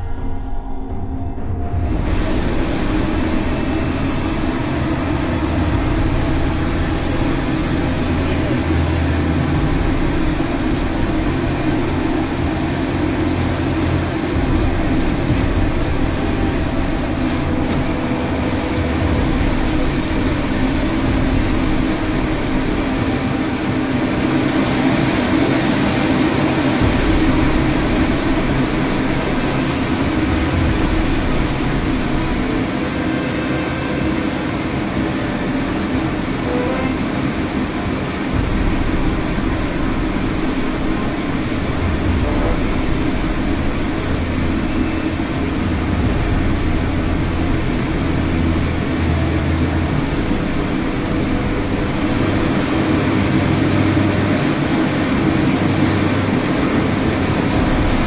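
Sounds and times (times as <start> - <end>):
loud rushing roar: 0.0 - 58.0
low hum: 0.0 - 58.0.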